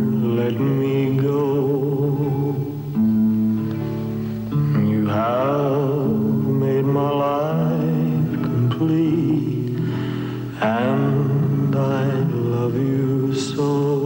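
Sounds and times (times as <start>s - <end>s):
slow background music: 0.0s - 14.0s.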